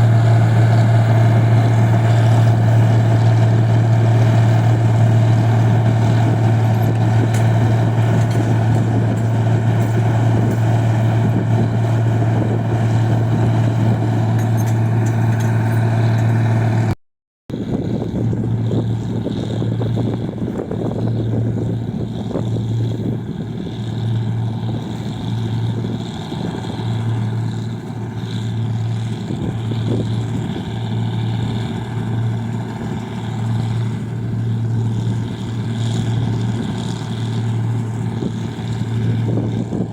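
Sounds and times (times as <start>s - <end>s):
machine engine humming: 0.0s - 17.0s, 17.6s - 39.9s.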